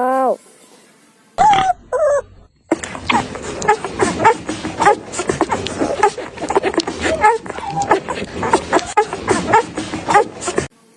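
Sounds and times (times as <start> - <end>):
pig grunts and squeals: 1.4 - 10.7.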